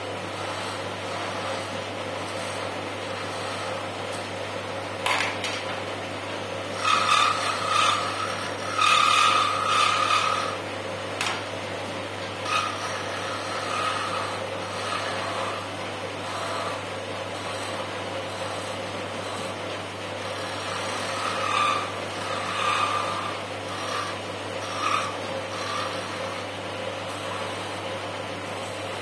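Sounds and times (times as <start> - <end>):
turning tool scraping wood: 0.0 - 4.5, 6.6 - 29.0
wood lathe motor hum: 0.0 - 29.0.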